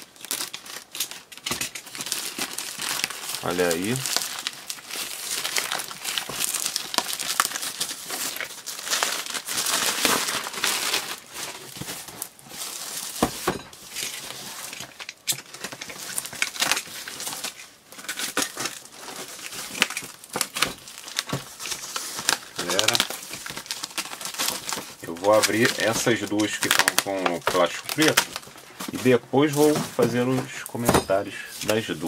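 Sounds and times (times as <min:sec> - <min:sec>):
plastic wrapping crinkling: 0:00.0 - 0:32.0.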